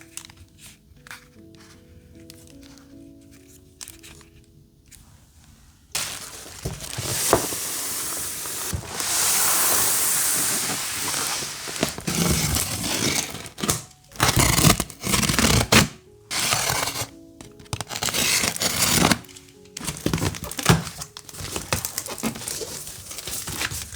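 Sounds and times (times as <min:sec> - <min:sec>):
paper rustling and scraping: 0:00.0 - 0:23.9.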